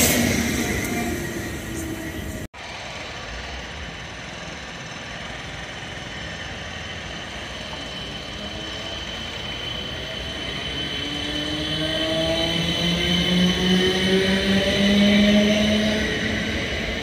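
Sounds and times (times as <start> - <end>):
rising whine: 0.0 - 17.0
wheels rumbling on rail: 0.0 - 17.0.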